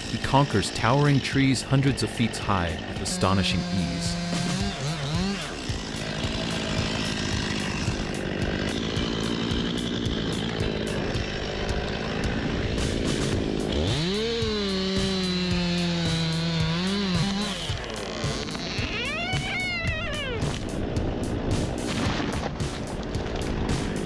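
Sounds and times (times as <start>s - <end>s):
background music: 0.0s - 24.0s
chainsaw engine revving: 0.0s - 24.0s.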